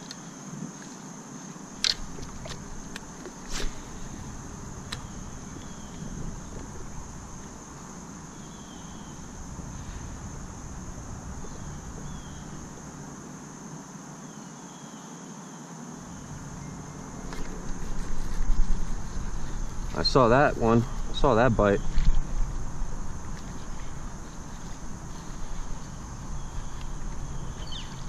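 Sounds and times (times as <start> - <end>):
crickets buzzing: 0.0 - 28.0
short insect chirp: 0.0 - 28.0
wind rumble on microphone: 2.0 - 13.3, 16.0 - 28.0.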